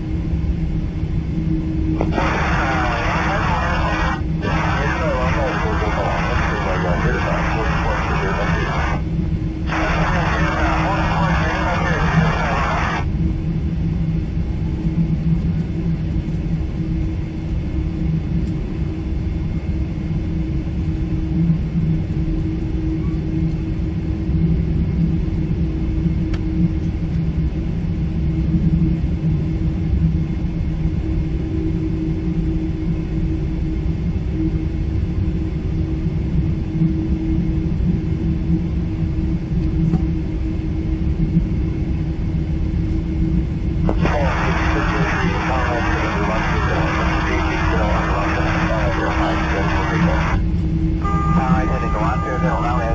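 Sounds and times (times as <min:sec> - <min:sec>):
airplane cabin low rumble: 0:00.0 - 0:52.9
constant droning hum: 0:00.0 - 0:52.9.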